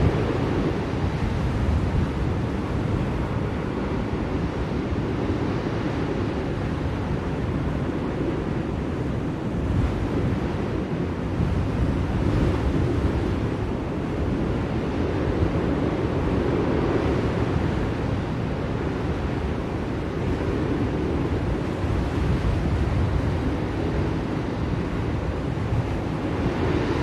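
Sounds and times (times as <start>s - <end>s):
blizzard wind blowing: 0.0s - 27.0s.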